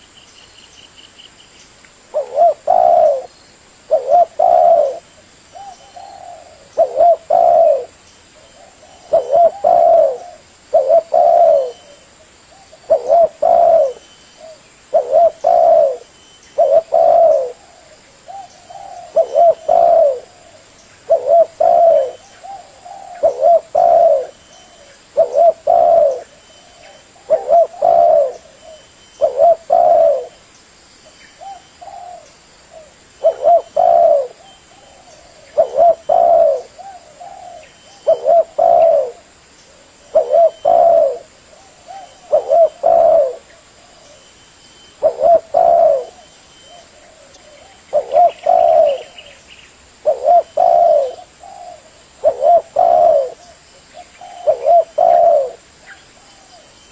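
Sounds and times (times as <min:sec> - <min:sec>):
dove cooing: 0:02.1 - 0:30.4, 0:31.4 - 0:49.4, 0:50.0 - 0:56.9.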